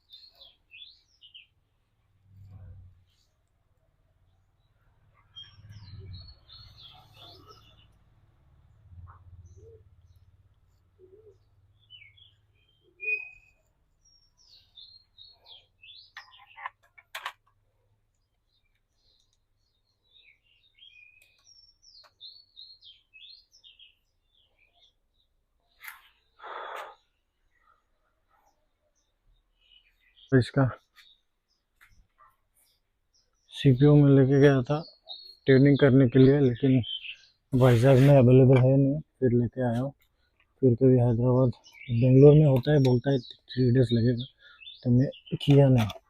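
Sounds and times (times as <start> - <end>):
faint birds chirping: 0.0 - 46.0.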